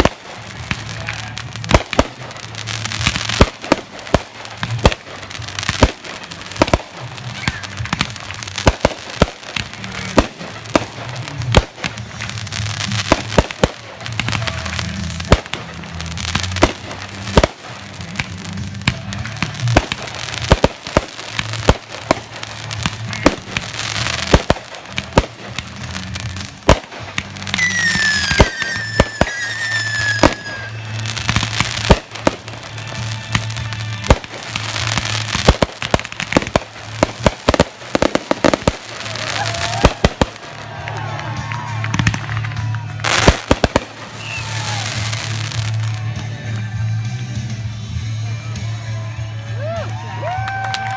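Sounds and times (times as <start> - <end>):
whistling fireworks: 0.0 - 46.1
fireworks crackling: 0.0 - 50.9.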